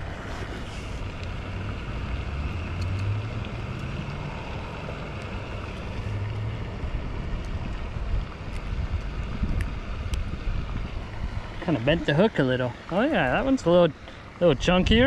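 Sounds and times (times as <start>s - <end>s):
wind buffeting microphone: 0.0s - 13.8s, 14.4s - 15.0s.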